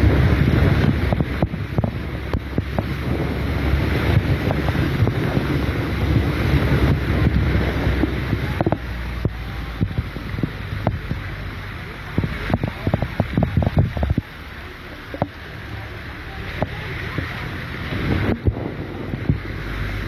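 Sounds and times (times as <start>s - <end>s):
wind and rain rushing: 0.0s - 20.0s
wind buffeting microphone: 0.0s - 20.0s.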